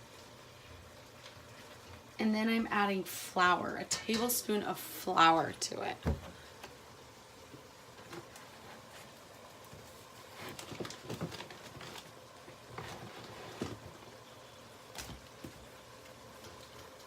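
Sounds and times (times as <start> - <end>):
faint steady background: 0.0 - 17.0.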